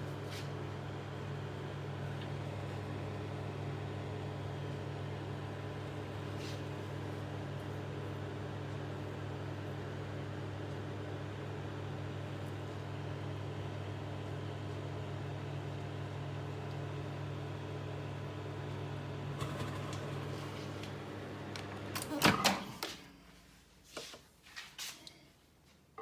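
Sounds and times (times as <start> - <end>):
microwave oven humming: 0.0 - 24.1.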